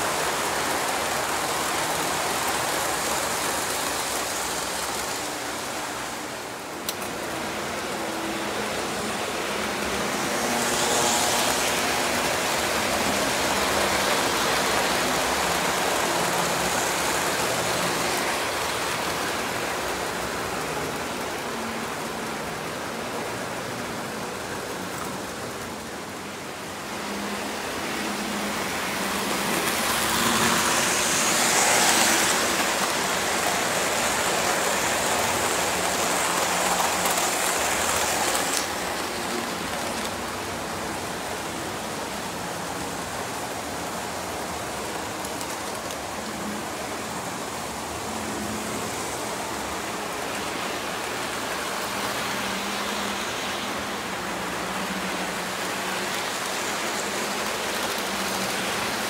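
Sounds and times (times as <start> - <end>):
model trains rumbling and clattering: 0.0 - 59.0.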